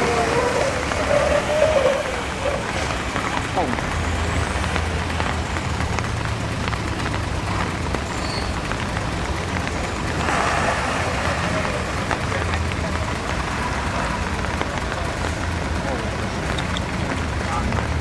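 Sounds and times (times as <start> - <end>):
steady rushing noise: 0.0 - 18.0
truck engine running: 0.0 - 18.0.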